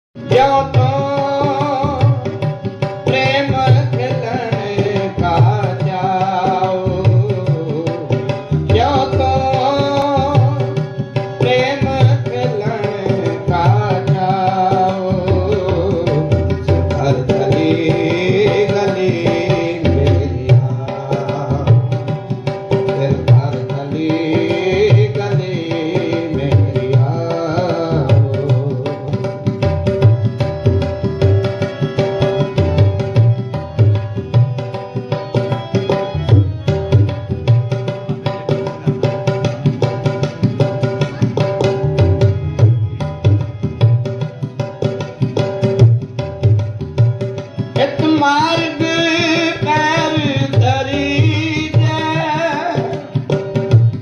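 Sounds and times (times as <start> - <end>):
tabla rhythm: 0.1 - 54.0
harmonium: 0.2 - 54.0.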